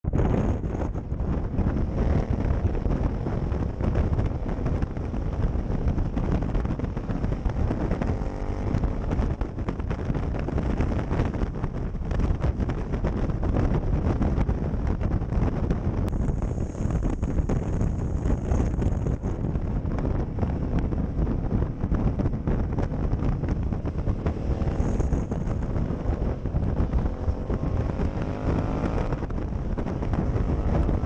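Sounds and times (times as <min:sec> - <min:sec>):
heavy wind buffeting microphone: 0:00.0 - 0:31.0
motorcycle engine running: 0:00.0 - 0:31.0.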